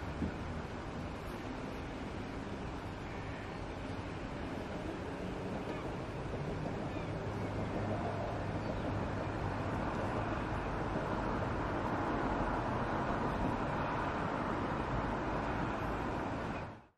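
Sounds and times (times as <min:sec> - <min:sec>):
outdoor hiss and rumble: 0:00.0 - 0:16.9.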